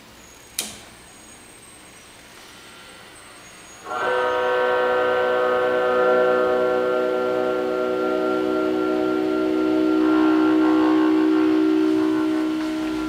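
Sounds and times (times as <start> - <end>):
electric guitar feedback: 1.0 - 13.0.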